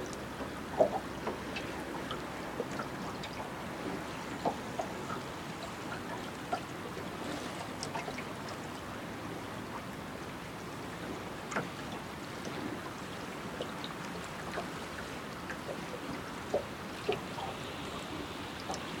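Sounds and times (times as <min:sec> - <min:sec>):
water splashes and gurgles: 0:00.0 - 0:19.0.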